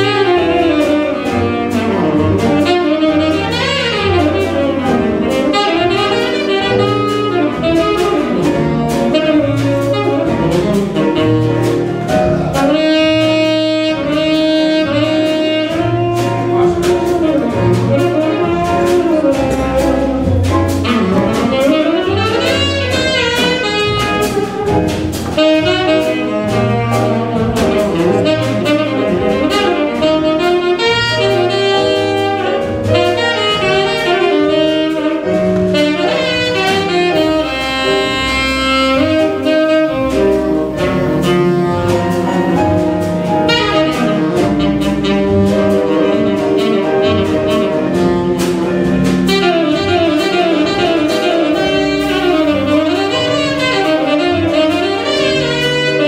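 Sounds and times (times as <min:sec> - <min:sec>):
double bass: 0:00.0 - 0:56.0
drums: 0:00.0 - 0:56.0
piano: 0:00.0 - 0:56.0
tenor saxophone solo: 0:00.0 - 0:56.0.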